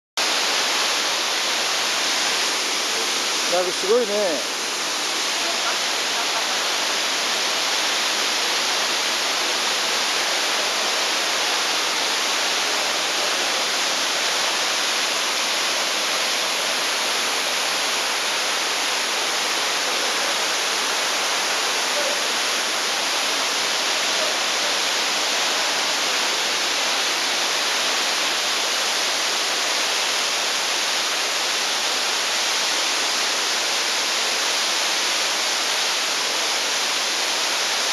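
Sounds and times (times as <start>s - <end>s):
waterfall rushing: 0.2s - 37.9s.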